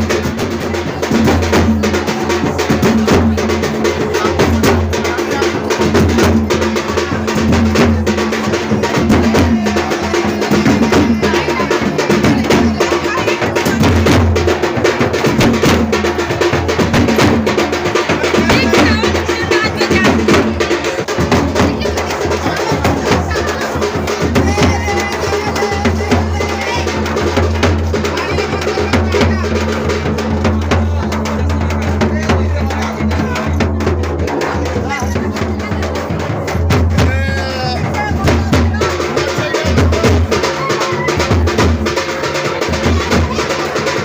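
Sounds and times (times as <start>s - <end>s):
drum-heavy dance music: 0.0s - 44.0s.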